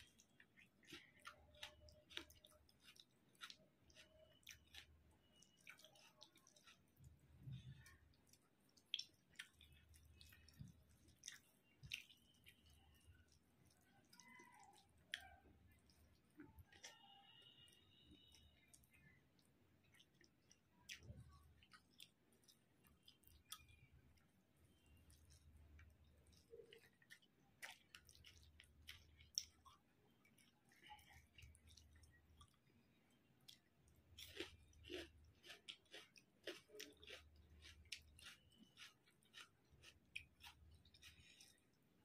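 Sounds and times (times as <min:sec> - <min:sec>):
close-miked chewing: 0:00.0 - 0:42.0.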